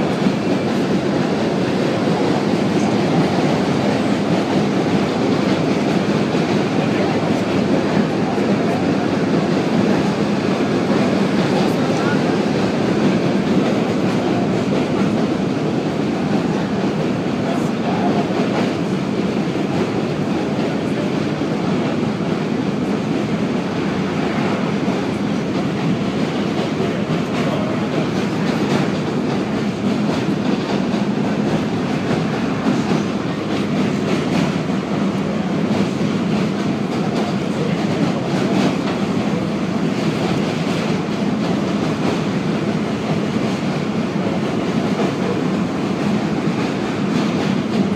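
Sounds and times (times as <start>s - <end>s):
subway wheels running on rails: 0.0s - 47.9s.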